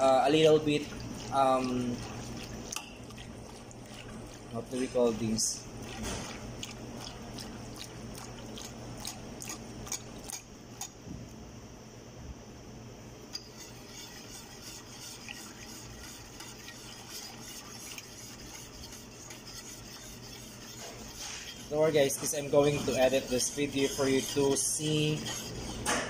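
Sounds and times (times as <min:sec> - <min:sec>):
whisk stirring thick mixture: 0:00.0 - 0:10.9, 0:13.4 - 0:26.0
whisk ticking against pot: 0:00.0 - 0:10.9, 0:13.3 - 0:26.0
steady low hum: 0:00.0 - 0:26.0.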